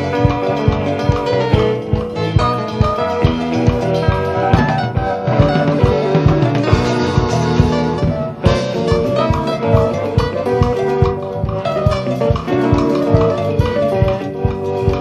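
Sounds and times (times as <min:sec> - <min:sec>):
band playing jazz-rock: 0:00.0 - 0:15.0.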